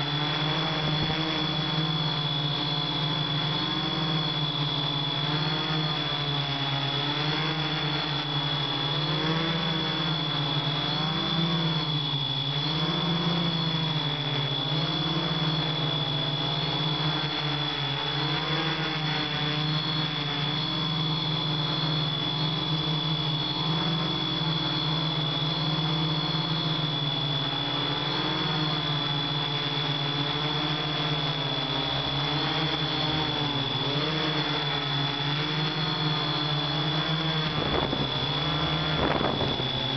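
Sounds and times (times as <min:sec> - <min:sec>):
drone propellers whirring: 0:00.0 - 0:39.9
steady high whine: 0:00.0 - 0:39.9.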